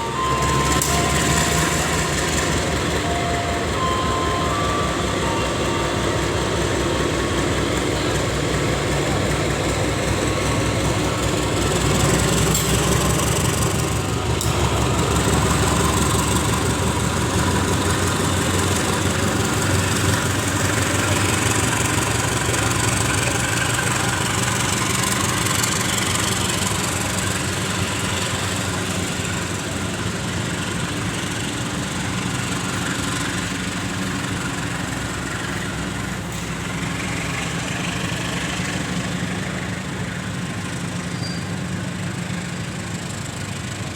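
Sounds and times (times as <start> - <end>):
diesel locomotive idling: 0.0 - 43.9.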